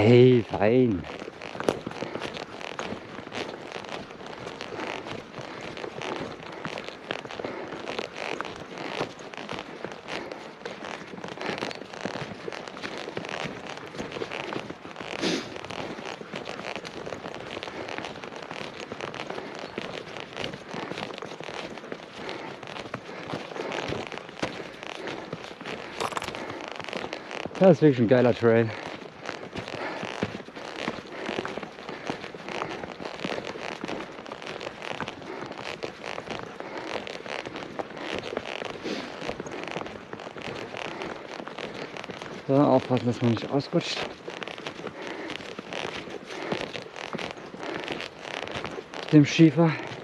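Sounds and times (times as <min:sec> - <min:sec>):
footsteps crunching in snow: 0:00.0 - 0:50.0.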